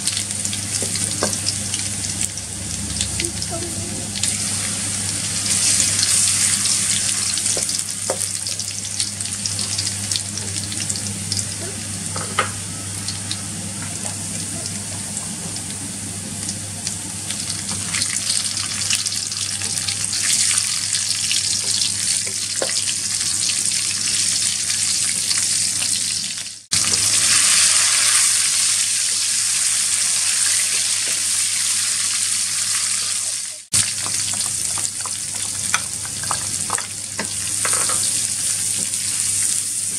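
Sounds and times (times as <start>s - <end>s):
garlic sizzling in hot oil: 0.0s - 39.9s.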